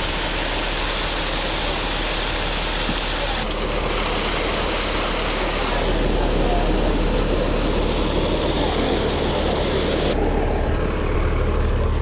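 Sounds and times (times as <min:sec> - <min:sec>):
creek water rushing: 0:00.0 - 0:10.2.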